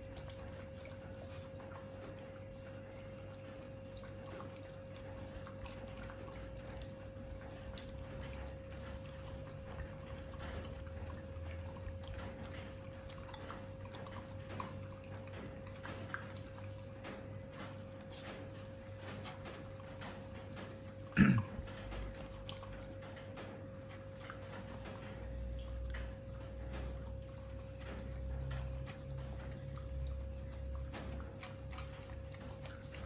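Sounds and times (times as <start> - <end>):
dogs chewing and lapping: 0.0 - 33.0.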